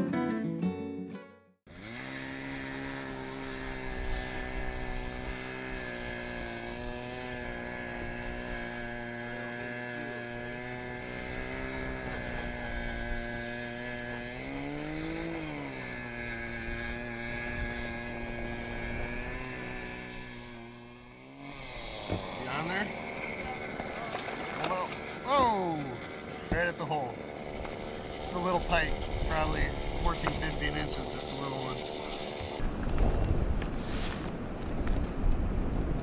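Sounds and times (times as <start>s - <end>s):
small engine idling and revving: 1.7s - 36.0s.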